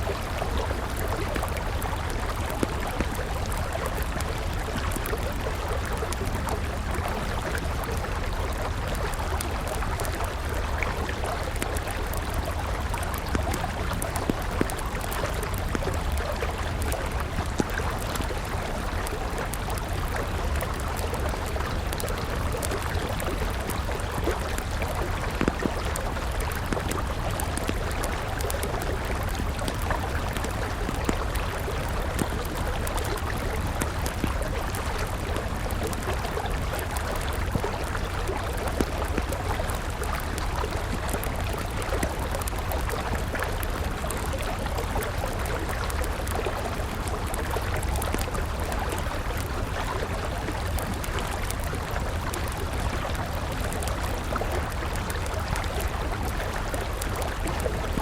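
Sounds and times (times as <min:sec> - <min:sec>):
campfire crackling: 0:00.0 - 0:58.0
river flowing: 0:00.0 - 0:58.0.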